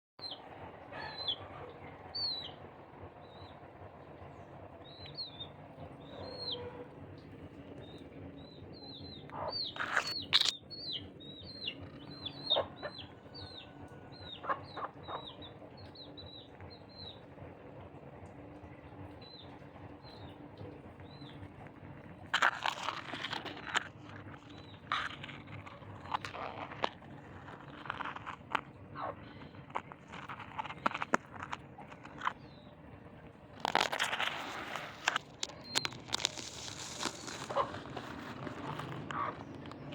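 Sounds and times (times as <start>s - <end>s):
birds chirping: 0.2s - 39.9s.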